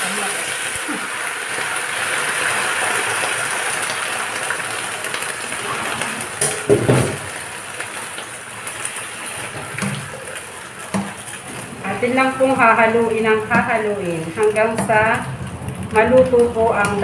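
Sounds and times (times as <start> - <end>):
leaves sizzling in hot oil: 0.0 - 17.0.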